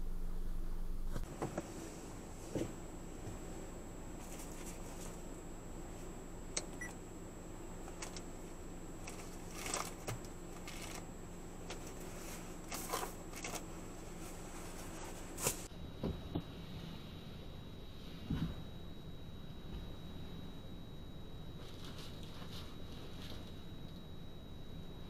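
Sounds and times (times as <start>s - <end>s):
low steady hum: 0.0s - 25.0s
thin high whine: 0.0s - 25.0s.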